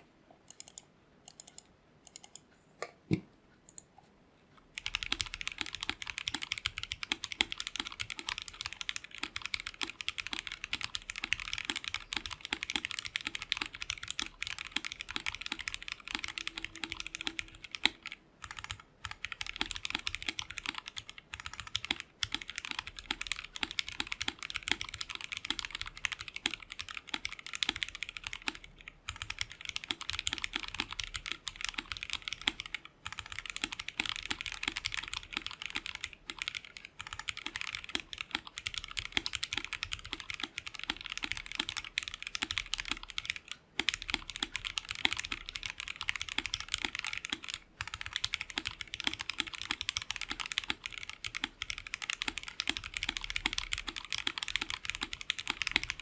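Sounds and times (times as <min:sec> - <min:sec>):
mechanical keyboard typing: 0:00.5 - 0:02.4, 0:04.7 - 0:56.0.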